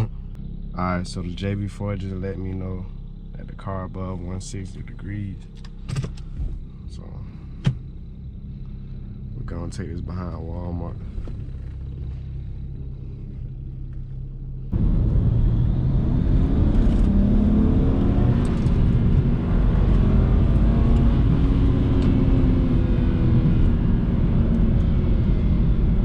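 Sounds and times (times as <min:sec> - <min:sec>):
turbo car engine revving: 0:00.0 - 0:26.0.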